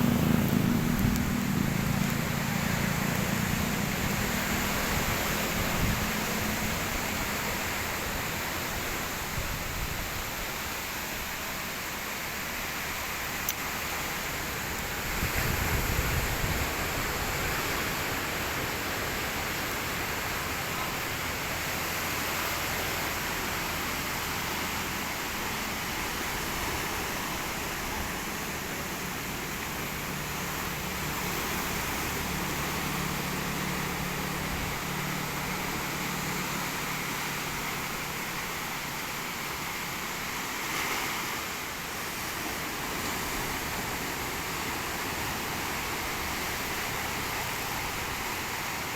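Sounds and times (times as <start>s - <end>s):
sea surf breaking: 0.0s - 48.9s.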